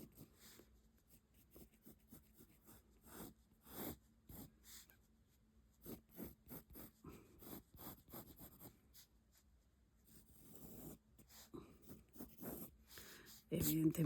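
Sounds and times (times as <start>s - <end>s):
pencil scratching on paper: 0.0s - 14.0s.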